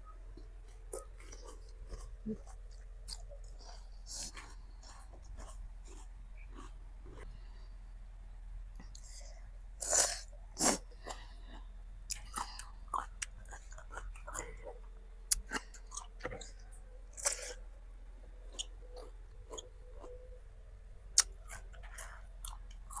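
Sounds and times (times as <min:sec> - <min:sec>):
chewing and crunching fruit: 0:00.0 - 0:23.0.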